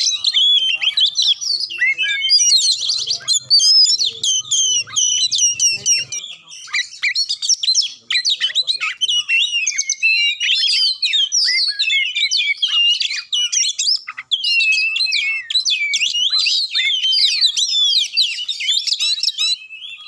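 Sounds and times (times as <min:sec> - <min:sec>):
magpie-robin singing: 0:00.0 - 0:20.0.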